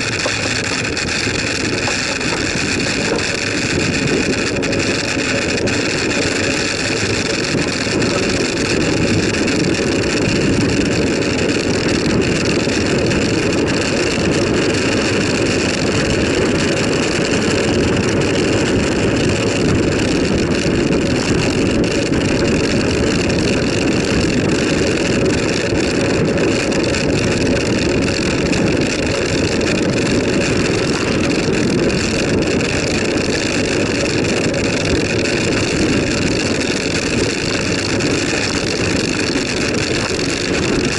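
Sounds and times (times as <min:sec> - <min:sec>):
bicycle tyre and road noise: 0:00.0 - 0:40.9
wind rush on microphone: 0:00.0 - 0:40.9.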